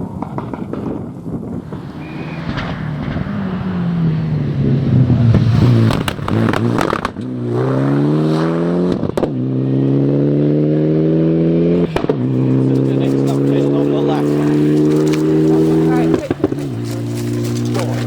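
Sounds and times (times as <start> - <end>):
rally car engine accelerating: 1.6 - 18.0.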